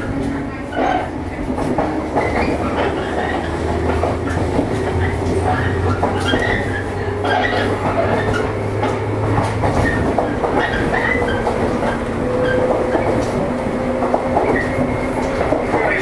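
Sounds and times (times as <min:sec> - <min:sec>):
steady low train hum: 0:00.0 - 0:16.0
train wheels clacking on rails: 0:00.0 - 0:16.0.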